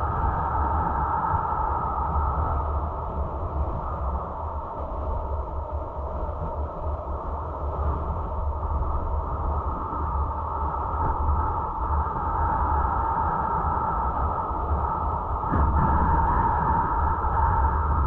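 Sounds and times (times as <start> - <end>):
car wind and road noise: 0.0 - 18.0.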